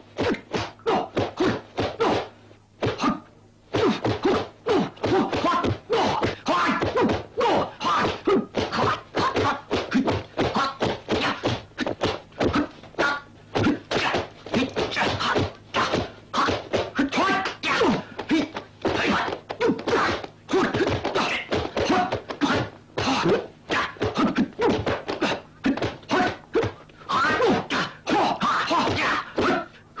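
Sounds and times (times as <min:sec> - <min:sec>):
sparring hits thwacking: 0:00.2 - 0:29.7.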